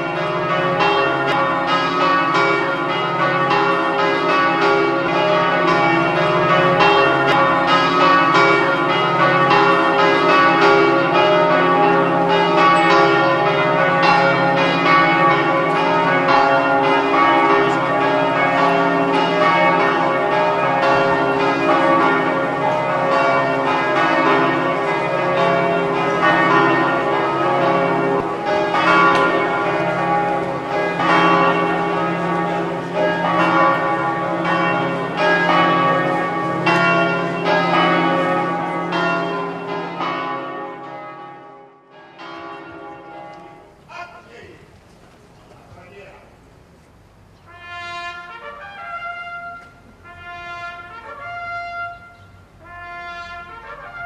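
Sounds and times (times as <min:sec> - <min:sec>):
church bells ringing: 0:00.0 - 0:44.4, 0:47.4 - 0:54.0.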